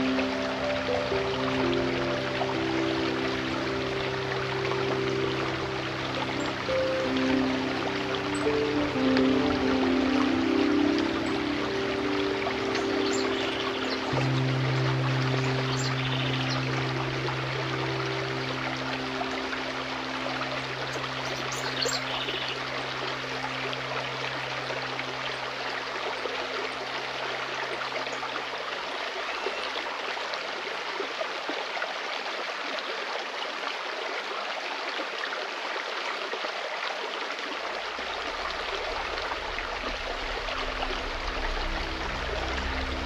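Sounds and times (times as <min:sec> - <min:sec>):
soft low music drone: 0:00.0 - 0:29.8, 0:37.8 - 0:43.0
stream flowing: 0:00.0 - 0:43.0.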